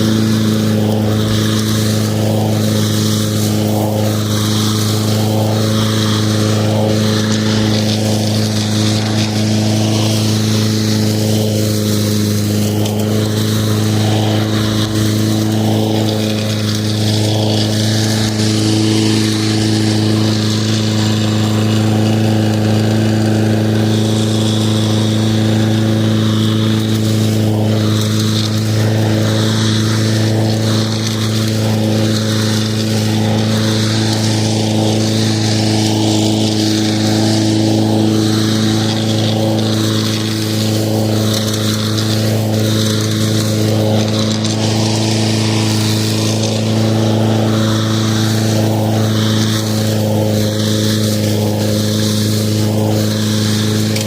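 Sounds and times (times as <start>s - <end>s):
lawn mower running: 0.0s - 54.0s.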